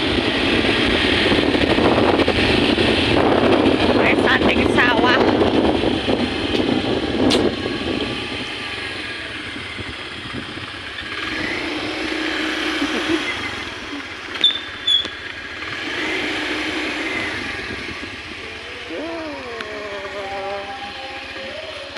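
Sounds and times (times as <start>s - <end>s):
vehicles passing on road: 0.0s - 21.9s.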